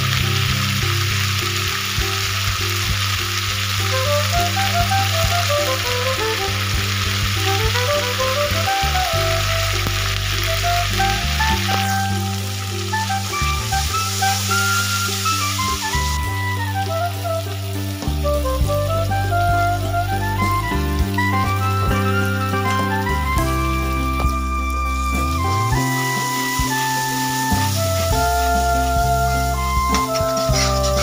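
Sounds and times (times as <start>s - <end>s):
background music with bass: 0.0s - 31.0s
hot oil sizzling: 0.0s - 31.0s.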